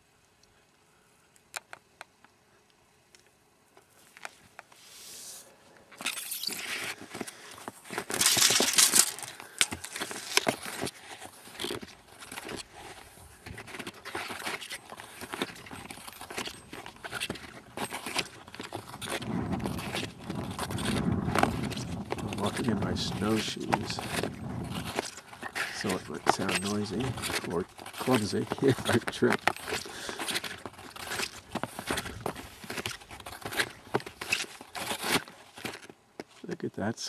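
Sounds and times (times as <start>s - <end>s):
footsteps crunching through snow: 6.0s - 36.5s.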